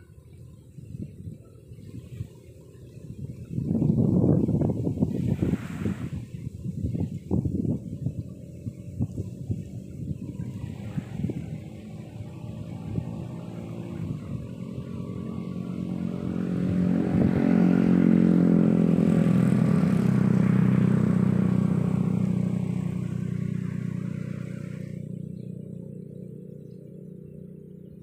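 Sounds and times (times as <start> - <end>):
small engine passing by: 0.0 - 28.0.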